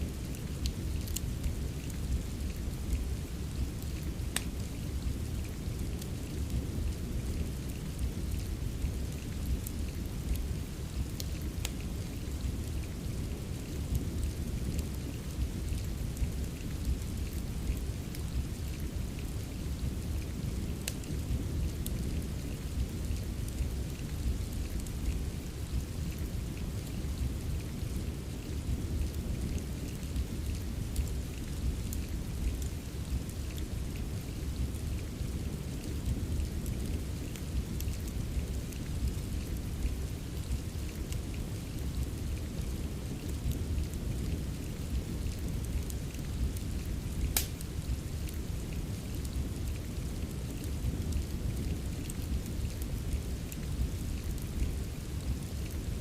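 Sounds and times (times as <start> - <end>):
fireplace crackles and pops: 0.0 - 56.0
steady rain: 0.0 - 56.0.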